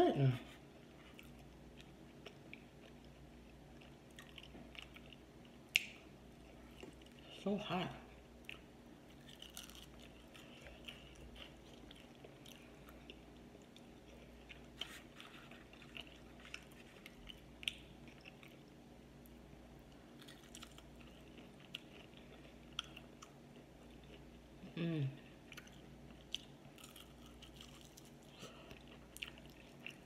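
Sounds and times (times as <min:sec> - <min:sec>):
person chewing chicken wings: 0:01.0 - 0:07.2, 0:08.4 - 0:18.7, 0:20.2 - 0:24.5, 0:25.5 - 0:30.0.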